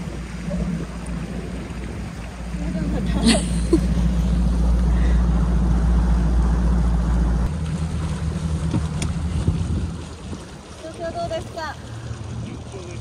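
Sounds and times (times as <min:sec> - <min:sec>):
outboard engine running: 0:00.0 - 0:13.0.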